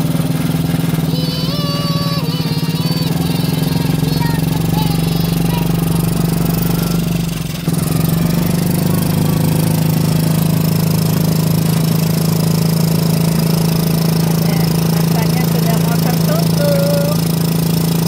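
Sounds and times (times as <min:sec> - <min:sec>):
small ride car engine running: 0:00.0 - 0:18.0.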